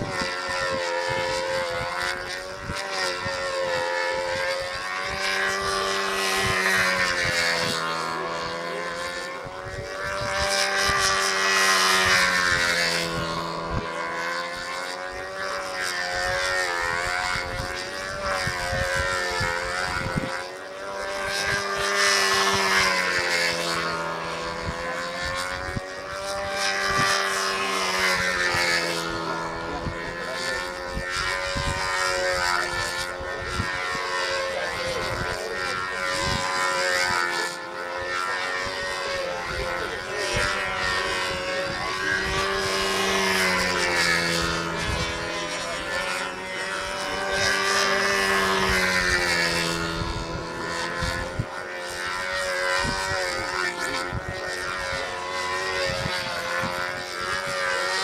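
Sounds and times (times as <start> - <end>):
model airplane engine running: 0.0 - 58.0.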